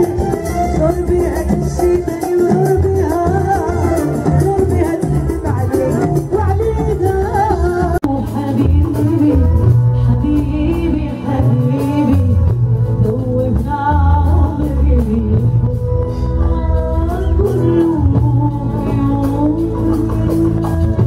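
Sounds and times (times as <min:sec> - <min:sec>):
amplified band playing: 0:00.0 - 0:21.0
steady bass: 0:00.0 - 0:21.0
woman singing into microphone: 0:00.0 - 0:21.0.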